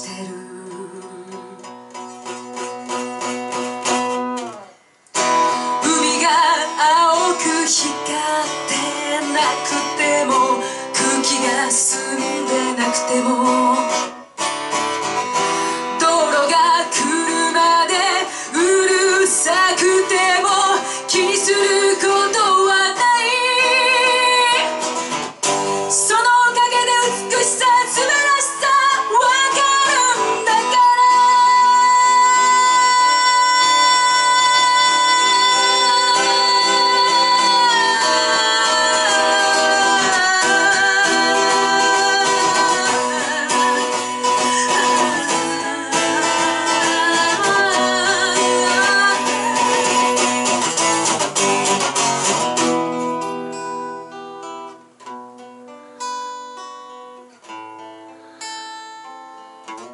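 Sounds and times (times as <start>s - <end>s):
person singing: 0.0s - 3.2s, 5.3s - 14.4s, 15.7s - 25.0s, 25.9s - 52.7s
electric guitar: 0.0s - 59.9s.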